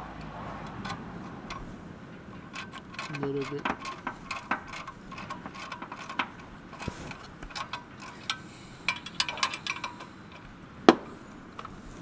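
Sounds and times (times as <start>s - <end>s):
ratchet clicking on metal: 0.2s - 10.6s.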